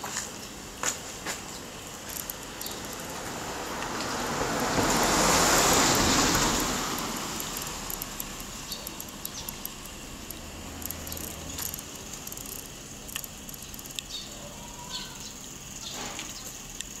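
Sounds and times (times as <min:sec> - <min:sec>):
outdoor background hiss: 0:00.0 - 0:17.0
high-pitched ticks and chirps: 0:01.5 - 0:04.2, 0:04.8 - 0:17.0.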